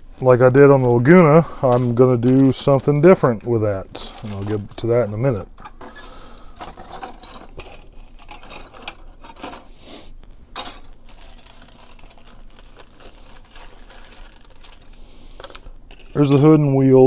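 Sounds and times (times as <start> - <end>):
plastic parts clacking down: 0.8 - 9.7, 10.5 - 16.6
plastic pieces clicking and rustling: 1.0 - 9.7, 10.5 - 16.6.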